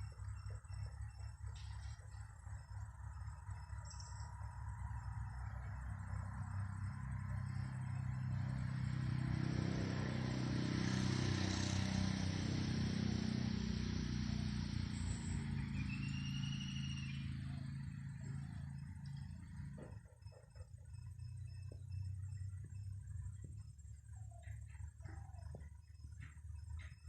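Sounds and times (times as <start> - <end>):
vehicle passing by: 4.3 - 27.0.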